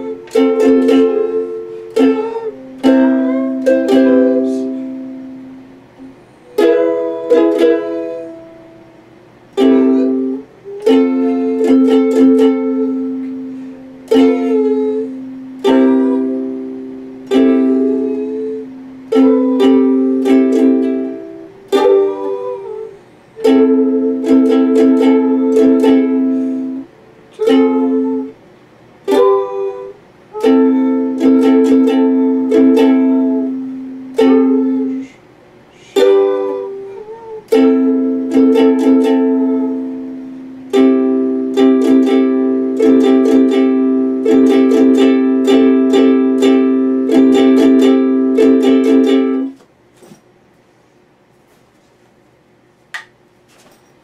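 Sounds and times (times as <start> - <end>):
ukulele strummed in chords: 0.0 - 28.4, 29.0 - 35.2, 35.8 - 49.6.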